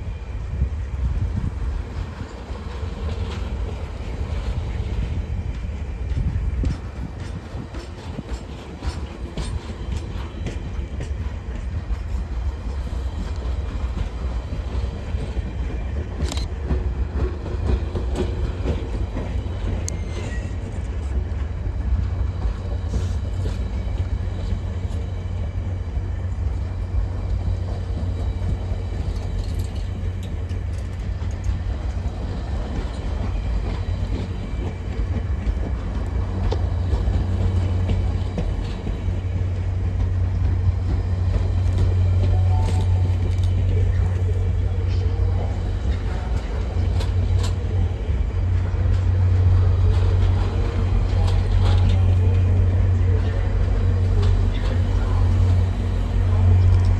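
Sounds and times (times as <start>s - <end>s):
train rumbling past: 0.0s - 56.9s.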